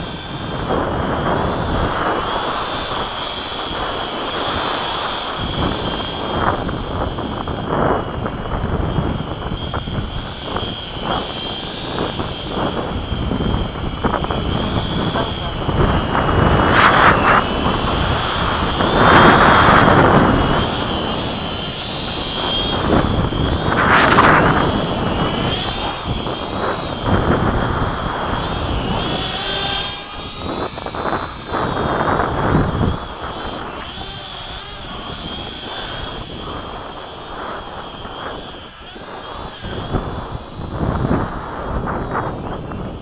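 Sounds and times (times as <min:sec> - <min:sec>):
model airplane motor whine: 0:00.0 - 0:43.0
wind buffeting microphone: 0:00.0 - 0:43.0.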